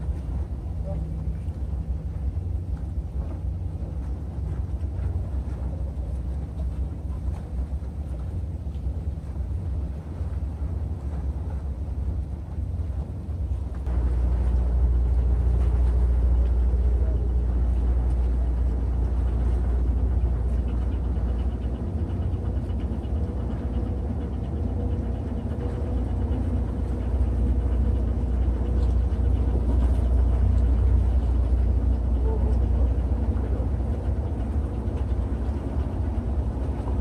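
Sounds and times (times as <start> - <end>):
faint hum: 0.0 - 37.0
wind buffeting microphone: 0.0 - 37.0.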